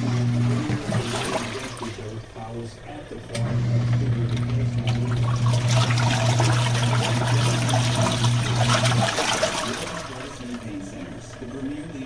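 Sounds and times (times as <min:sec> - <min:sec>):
water churning and splashing: 0:00.0 - 0:02.7, 0:03.6 - 0:11.5
washing machine motor hum: 0:00.0 - 0:12.0.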